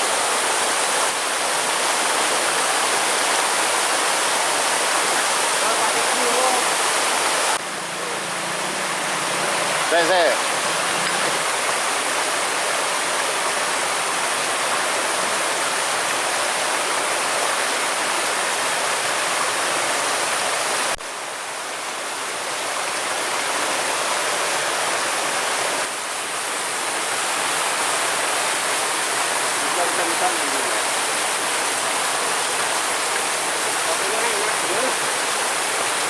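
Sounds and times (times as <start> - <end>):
waterfall splashing: 0.0 - 36.0.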